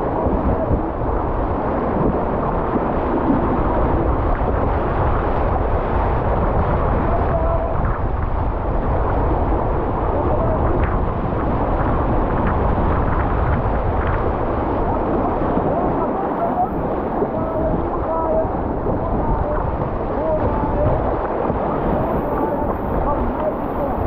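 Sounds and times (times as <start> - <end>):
paddle splashes: 0.0 - 24.0
whitewater rushing against kayak: 0.0 - 24.0.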